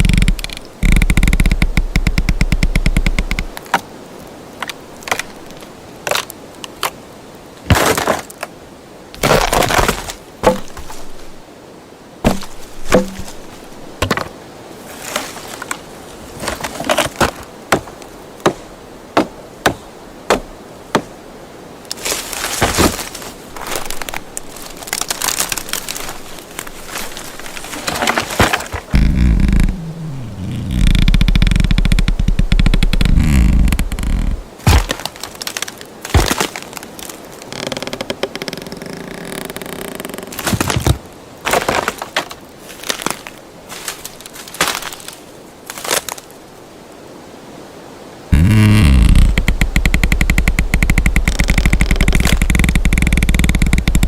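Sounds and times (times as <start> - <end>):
wood snapping and cracking: 0.0 - 3.9, 4.6 - 7.0, 7.7 - 8.5, 9.2 - 11.4, 12.2 - 14.3, 16.4 - 18.6, 21.9 - 46.3, 48.4 - 54.0.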